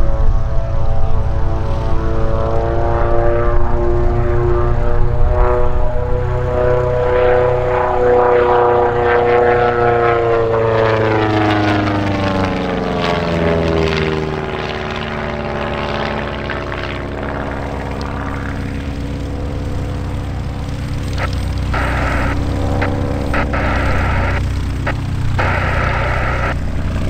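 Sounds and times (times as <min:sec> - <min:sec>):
light aircraft flying past: 0:00.0 - 0:27.0.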